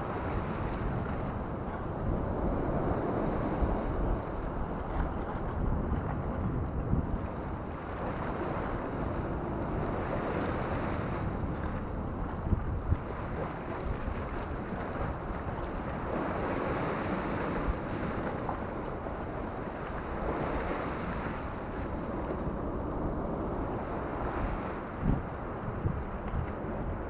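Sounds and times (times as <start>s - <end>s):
sea waves washing against rocks: 0.0s - 27.0s
wind buffeting microphone: 0.0s - 27.0s.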